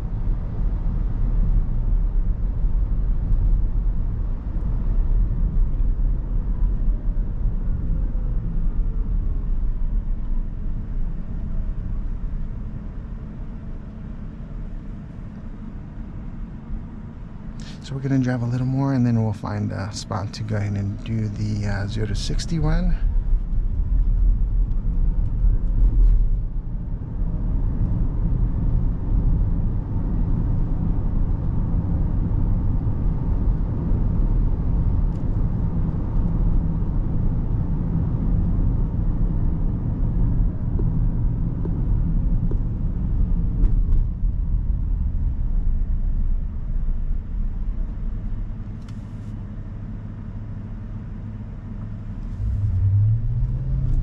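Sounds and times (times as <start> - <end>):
road and tyre rumble in car: 0.0 - 54.0.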